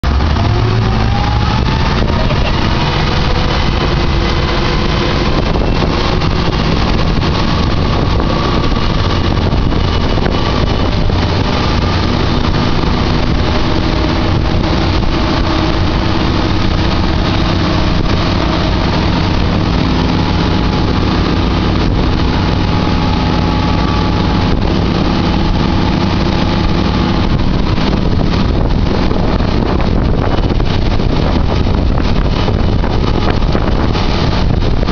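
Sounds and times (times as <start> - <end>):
boat diesel engines pulling hard: 0.0 - 34.9.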